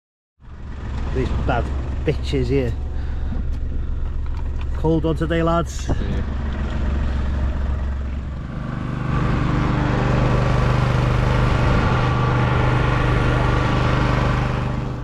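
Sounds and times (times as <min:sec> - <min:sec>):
vehicle engine running: 0:00.4 - 0:15.0.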